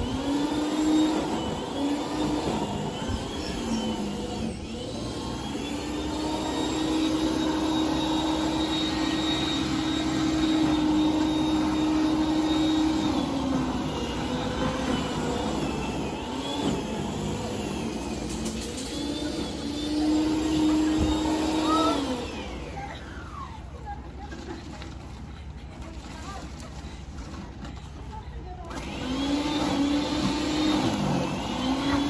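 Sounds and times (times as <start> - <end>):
snowblower engine running: 0.0 - 26.0, 28.6 - 32.0.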